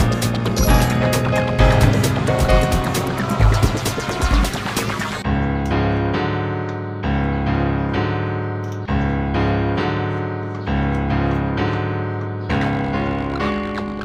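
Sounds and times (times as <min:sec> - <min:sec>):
piano-like keyboard chords: 0:00.0 - 0:14.0.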